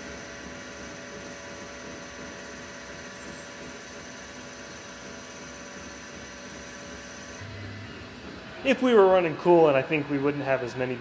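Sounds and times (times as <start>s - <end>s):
high spindle whine: 0.0s - 11.0s
lathe cutting metal: 0.0s - 11.0s.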